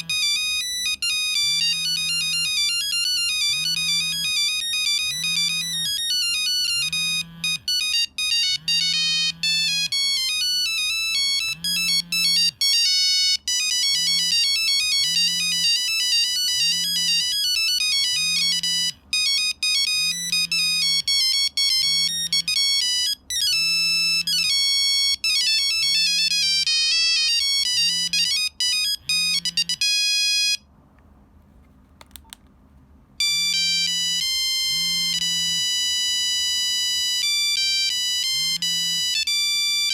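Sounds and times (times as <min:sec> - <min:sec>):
mobile phone ringtone beeping melody: 0:00.0 - 0:30.6, 0:33.2 - 0:39.9.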